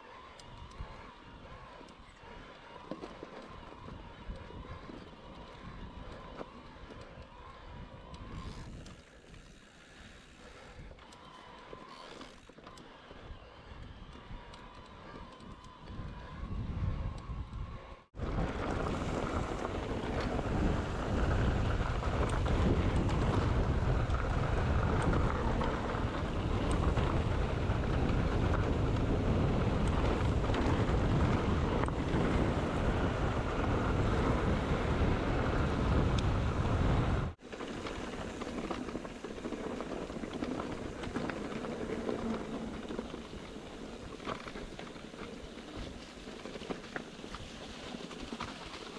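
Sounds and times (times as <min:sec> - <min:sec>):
wind buffeting microphone: 0:00.0 - 0:09.6, 0:13.2 - 0:48.8
tyres rattling on dirt trail: 0:00.0 - 0:48.9.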